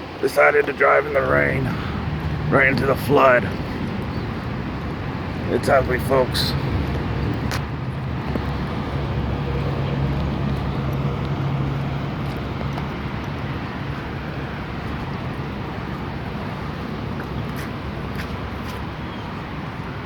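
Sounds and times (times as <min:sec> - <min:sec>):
vehicle engine hum: 0:00.0 - 0:20.0.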